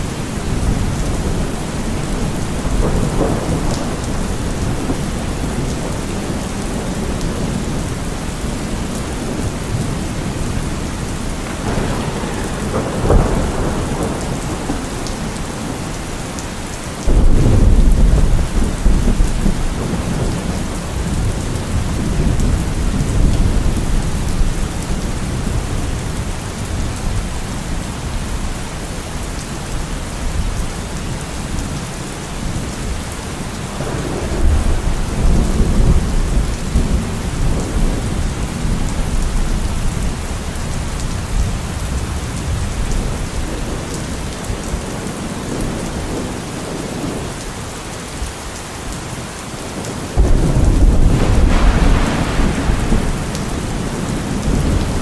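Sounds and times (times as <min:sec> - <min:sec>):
thunder rumbling: 0:00.0 - 0:28.5, 0:33.7 - 0:47.4, 0:49.8 - 0:55.0
steady rain: 0:00.0 - 0:55.0.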